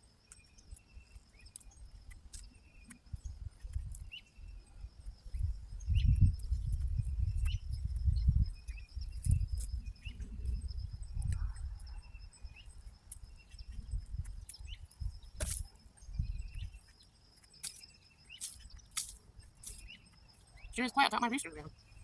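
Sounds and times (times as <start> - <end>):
bird chirps: 0.0 - 22.0
insect trill: 0.0 - 22.0.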